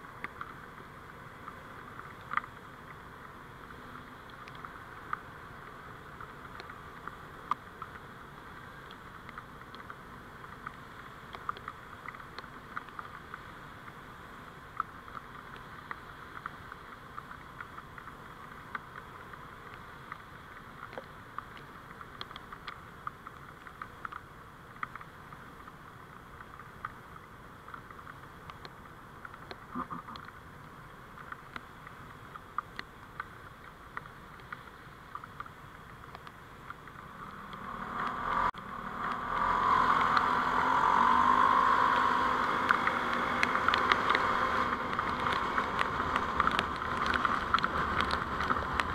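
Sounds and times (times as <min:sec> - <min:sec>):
faint irregular ticks: 0:00.0 - 0:48.9
road and vehicle noise hiss: 0:00.0 - 0:48.9.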